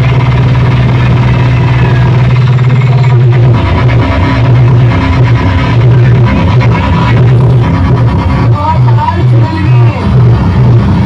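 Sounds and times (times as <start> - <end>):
loud bass-heavy music: 0.0 - 11.0.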